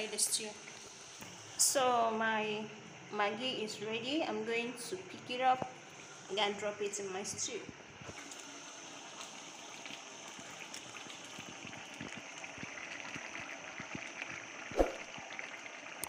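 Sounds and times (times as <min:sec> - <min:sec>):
stew simmering with crackling bubbles: 0:00.0 - 0:03.0, 0:05.0 - 0:16.0.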